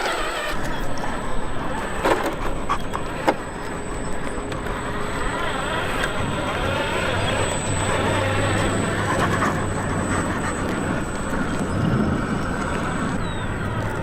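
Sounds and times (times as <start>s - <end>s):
radio-controlled truck motor: 0.0s - 14.0s.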